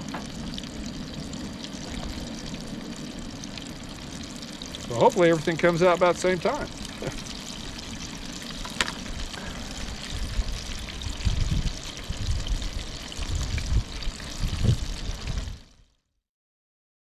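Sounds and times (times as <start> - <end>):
low rumbles: 0.0 - 15.6
chicken deep-frying in oil: 0.0 - 16.1.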